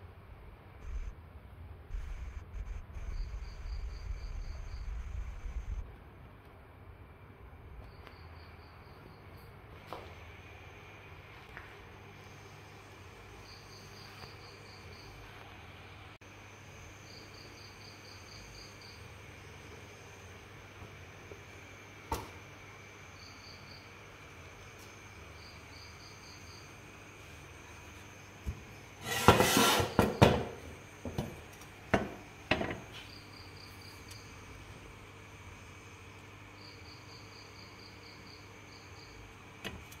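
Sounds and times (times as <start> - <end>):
faint steady background noise: 0.0 - 40.0
cricket chirping: 1.9 - 5.9, 7.7 - 10.8, 12.1 - 15.4, 16.3 - 20.6, 21.4 - 40.0.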